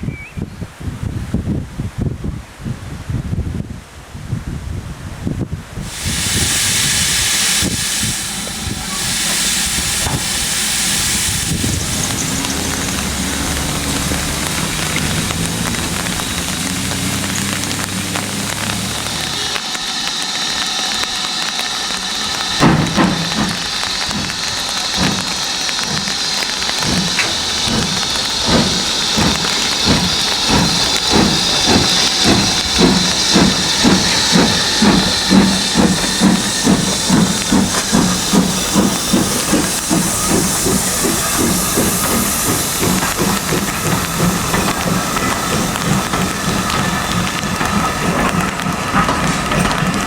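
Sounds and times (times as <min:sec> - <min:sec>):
steam hissing: 0:05.8 - 0:50.0
steam locomotive chuffing: 0:05.8 - 0:50.0.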